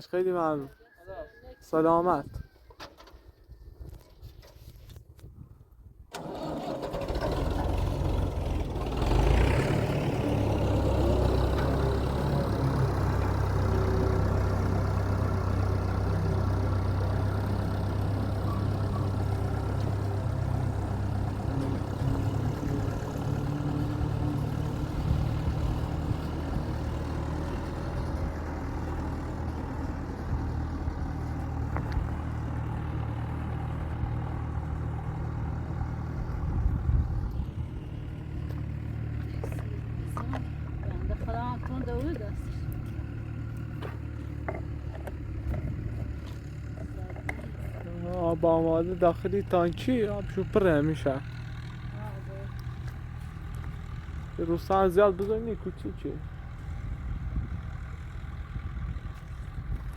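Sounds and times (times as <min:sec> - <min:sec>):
tractor engine running: 0:06.1 - 0:59.9.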